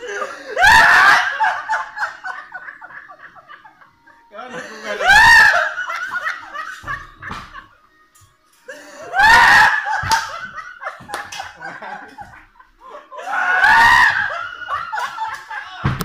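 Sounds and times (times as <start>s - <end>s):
high-pitched peal of laughter: 0.0s - 7.8s, 8.7s - 15.9s
men laughing: 0.0s - 16.0s.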